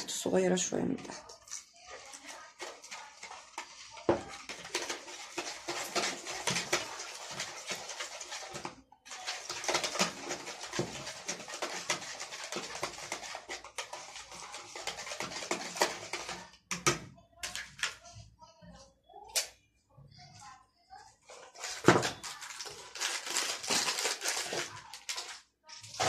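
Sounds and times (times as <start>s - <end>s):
whisk beating eggs in bowl: 0.0s - 18.2s, 21.2s - 26.0s.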